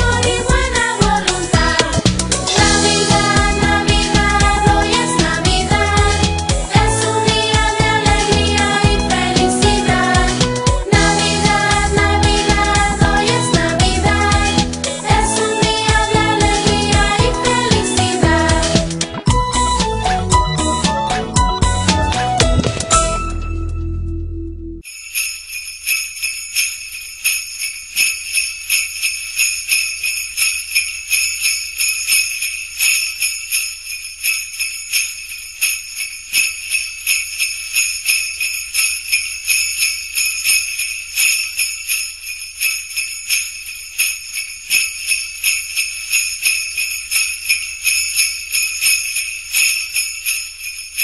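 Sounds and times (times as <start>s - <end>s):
sleigh bells jingling: 0.0s - 19.8s, 24.8s - 51.0s.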